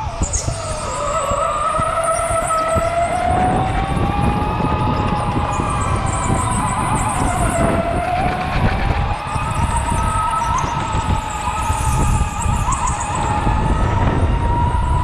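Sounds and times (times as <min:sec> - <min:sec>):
electric go-kart motor whining: 0:00.0 - 0:15.0.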